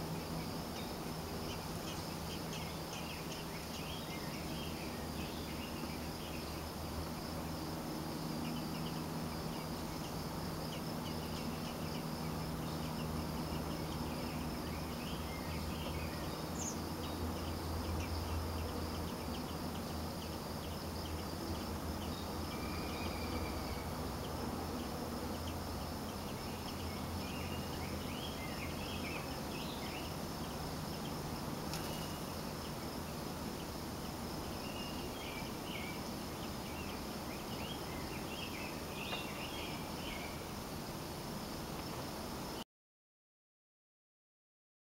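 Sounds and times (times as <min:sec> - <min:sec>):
faint low hum: 0:00.0 - 0:42.6
high-pitched insect trill: 0:00.0 - 0:42.6
bird chirps: 0:00.2 - 0:06.7, 0:08.4 - 0:32.9, 0:34.4 - 0:40.4.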